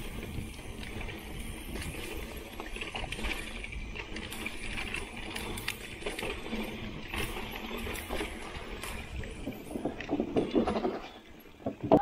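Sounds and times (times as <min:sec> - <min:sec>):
bike chain clicks and rattles: 0:00.0 - 0:11.1.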